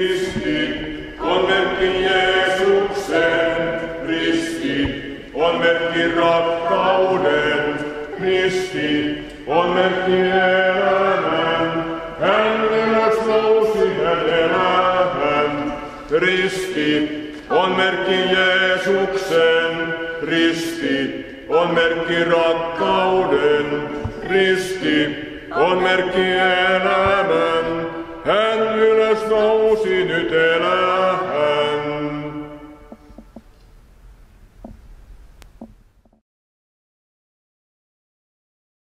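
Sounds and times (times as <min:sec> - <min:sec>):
group of young people singing: 0:00.0 - 0:33.3.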